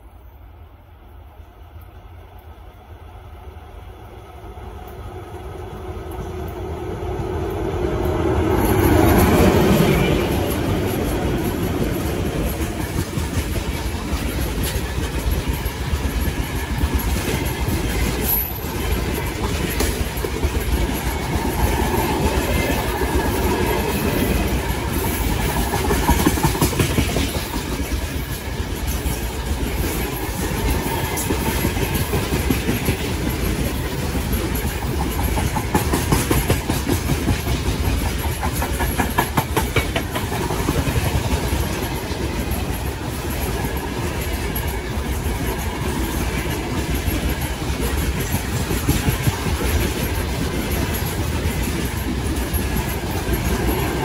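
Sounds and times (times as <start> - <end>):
locomotive passing: 3.3 - 54.0
train wheels clickety-clack: 4.8 - 54.0.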